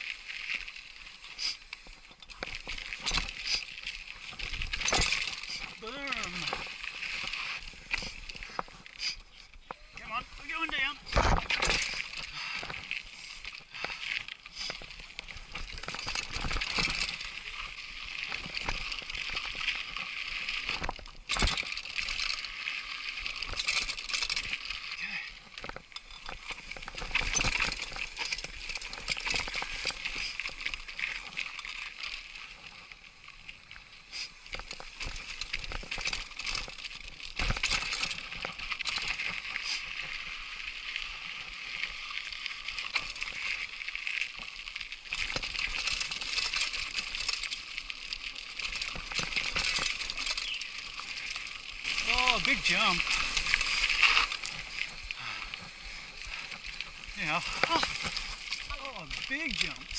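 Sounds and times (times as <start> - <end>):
bike tyres crunching on rocky trail: 0.0 - 59.9
bike clattering and rattling: 1.4 - 9.7, 11.0 - 32.8, 34.1 - 59.9.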